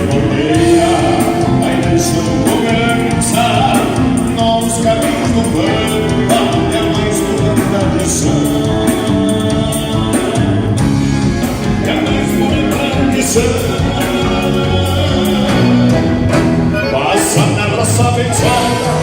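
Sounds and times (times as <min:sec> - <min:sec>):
live band playing: 0:00.0 - 0:19.0
person singing: 0:00.0 - 0:19.0.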